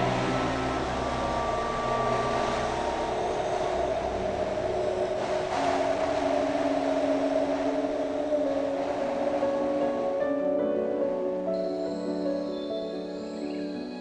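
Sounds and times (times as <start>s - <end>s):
steady rushing noise: 0.0s - 12.4s
held droning tones: 0.0s - 14.0s.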